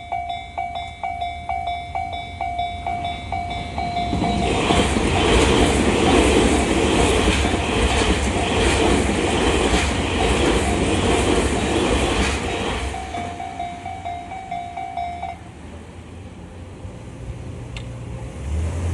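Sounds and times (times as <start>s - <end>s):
train wheels clattering over rails: 0.0s - 15.5s
crossing warning bell dinging: 0.0s - 16.2s.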